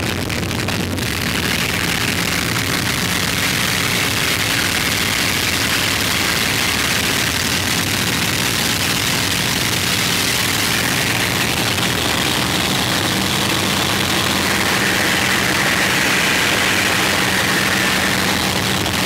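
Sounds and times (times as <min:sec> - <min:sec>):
aircraft engine drone: 0:00.0 - 0:19.0
rush of air noise: 0:00.0 - 0:19.0.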